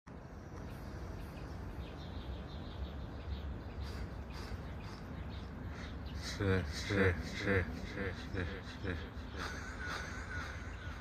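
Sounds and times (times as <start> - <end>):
low steady outdoor rumble: 0.1 - 11.0.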